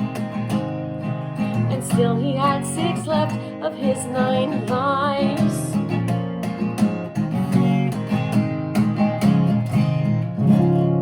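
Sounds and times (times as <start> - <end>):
guitar plucking and strumming: 0.0 - 11.0.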